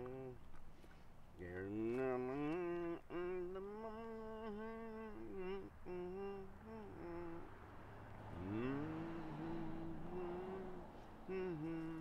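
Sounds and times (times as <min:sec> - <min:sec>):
man humming: 0:00.0 - 0:00.4, 0:01.4 - 0:07.6, 0:08.3 - 0:12.0.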